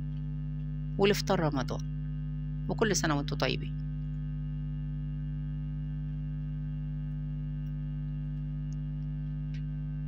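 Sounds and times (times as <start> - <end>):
buzzy electrical hum: 0.0 - 10.0.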